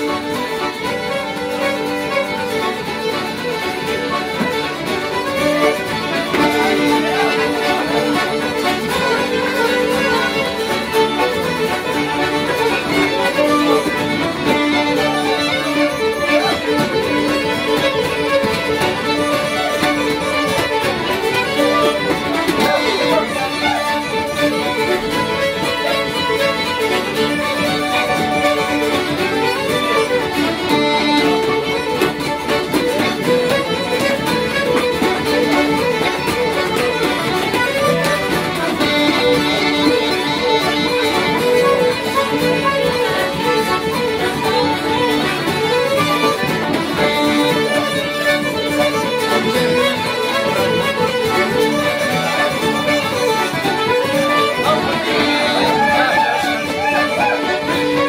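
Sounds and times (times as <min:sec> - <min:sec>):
fiddle dance tune: 0:00.0 - 0:58.0.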